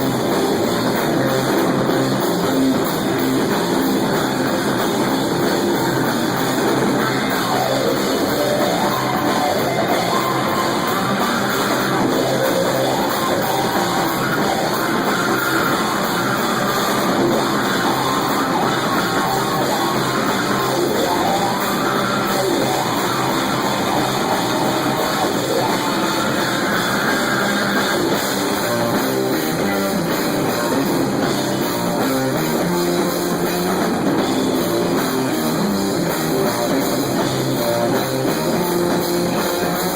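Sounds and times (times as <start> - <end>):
distorted electric guitars: 0.0 - 39.9
drum kit: 0.0 - 39.9.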